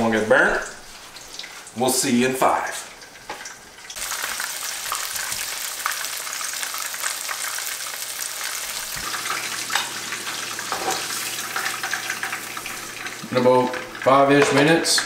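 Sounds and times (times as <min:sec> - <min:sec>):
meat frying in hot oil: 0:00.2 - 0:15.0.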